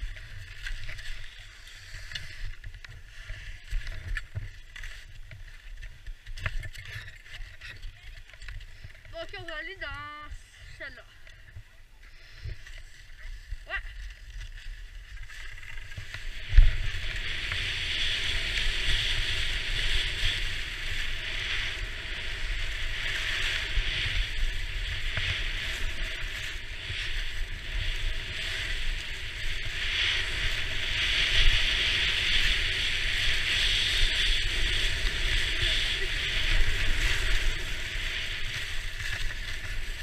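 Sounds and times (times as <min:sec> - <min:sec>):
skis scraping on snow: 0:00.0 - 0:40.0
wind on microphone: 0:00.0 - 0:40.0.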